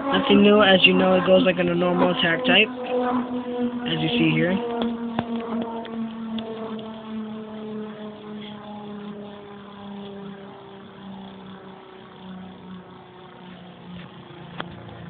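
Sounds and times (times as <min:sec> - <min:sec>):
spinning top whirring: 0:00.0 - 0:15.0.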